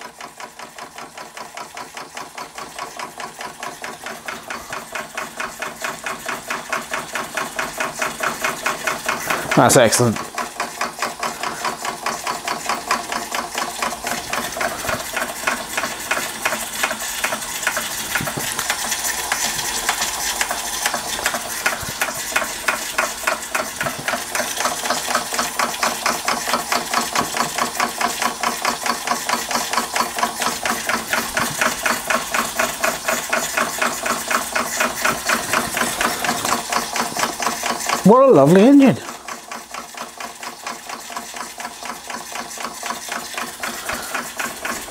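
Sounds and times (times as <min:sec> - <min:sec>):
model steam engine puffing: 0:00.1 - 0:38.1, 0:39.0 - 0:44.9.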